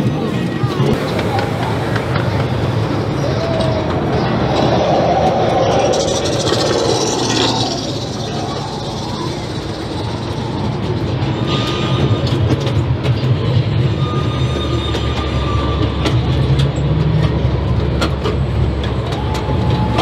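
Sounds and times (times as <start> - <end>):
train rumbling on track: 0.0 - 20.0
wheels clacking over rails: 0.0 - 20.0.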